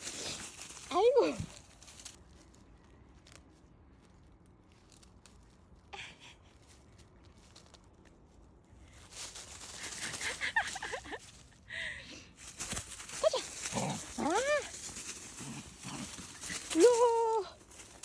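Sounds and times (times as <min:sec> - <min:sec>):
footsteps in dry leaves: 0:00.0 - 0:05.8, 0:06.4 - 0:11.6, 0:12.3 - 0:18.0.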